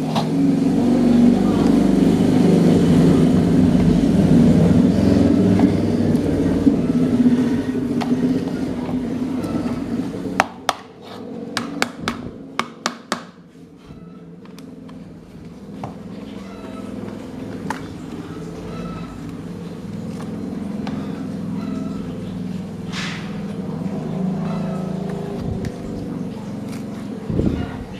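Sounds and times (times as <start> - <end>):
mechanical hum winding down: 0.0 - 12.6, 13.4 - 27.9.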